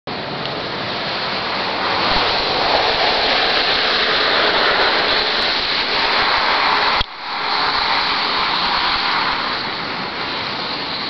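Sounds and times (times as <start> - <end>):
wind buffeting microphone: 0.1 - 11.0.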